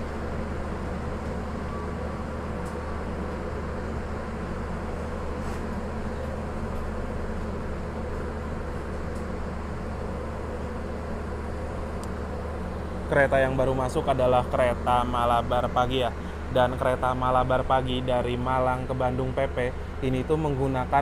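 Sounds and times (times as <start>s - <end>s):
train rolling with rumble: 0.0s - 21.0s.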